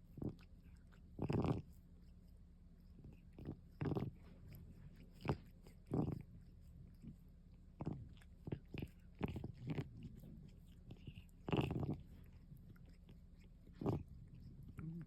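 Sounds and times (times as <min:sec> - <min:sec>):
cat licking its fur: 0:00.0 - 0:15.0.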